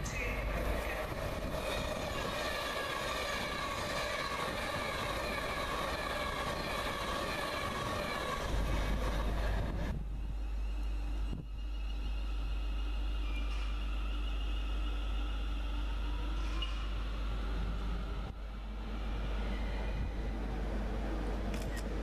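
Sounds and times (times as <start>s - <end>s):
train wheels rushing on rail: 0.0s - 22.0s
train whine: 0.0s - 22.0s.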